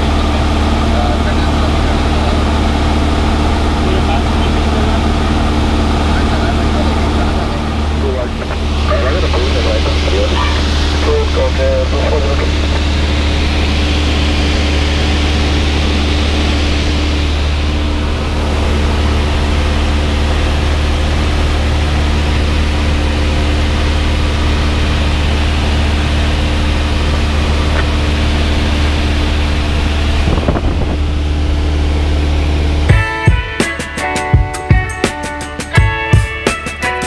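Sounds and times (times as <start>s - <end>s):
propeller plane engine drone: 0.0s - 37.0s.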